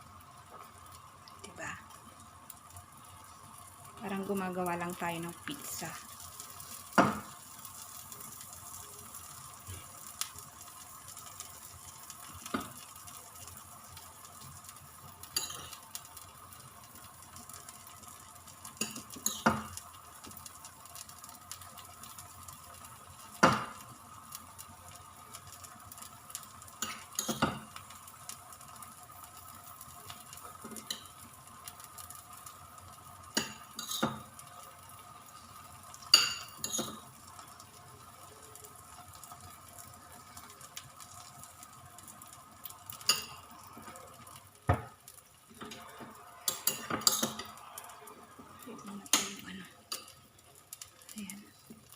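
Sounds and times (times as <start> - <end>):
egg sizzling in oil: 0.0 - 51.9.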